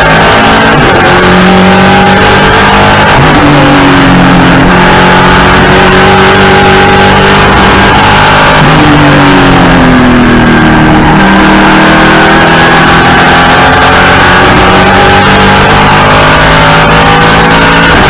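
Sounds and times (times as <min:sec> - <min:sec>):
race car engine from cockpit: 0:00.0 - 0:18.0.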